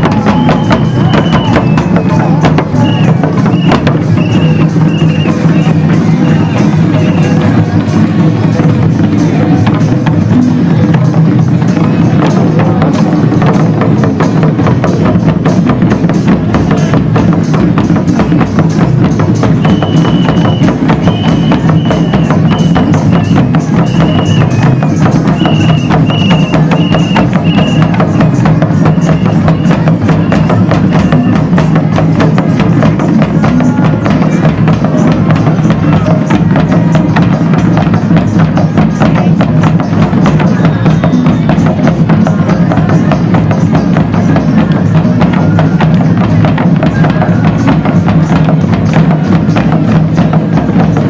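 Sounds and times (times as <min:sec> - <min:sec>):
barrel drums played by hand: 0:00.0 - 0:51.0.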